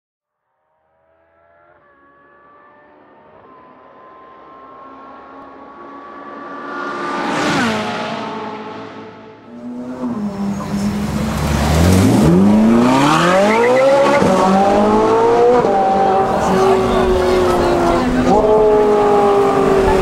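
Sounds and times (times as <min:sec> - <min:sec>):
sports car accelerating and passing: 0:01.0 - 0:20.0.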